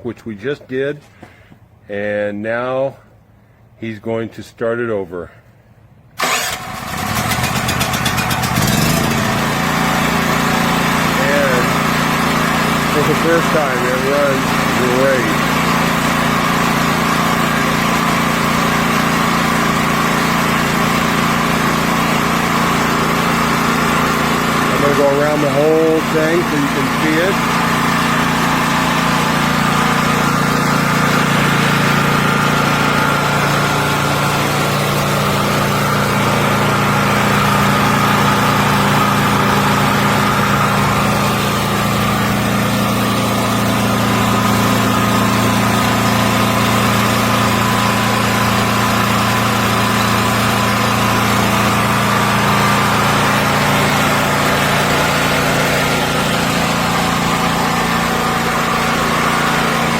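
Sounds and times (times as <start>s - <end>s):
generator engine running: 5.6s - 59.9s.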